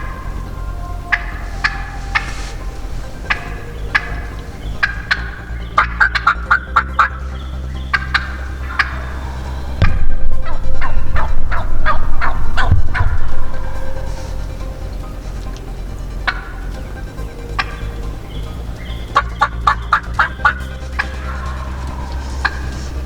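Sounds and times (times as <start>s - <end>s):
wild turkey gobbling: 0.0s - 23.0s.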